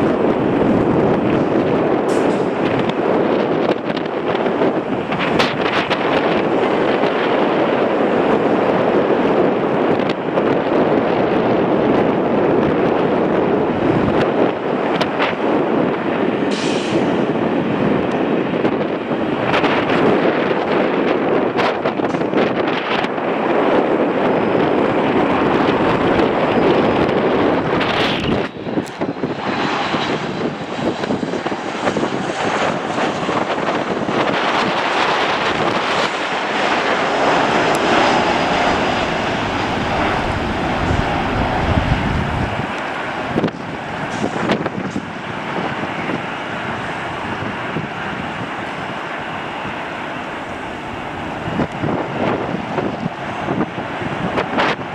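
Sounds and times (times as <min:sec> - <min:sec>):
jet engines roaring: 0:00.0 - 0:54.9
wind on microphone: 0:00.0 - 0:54.9.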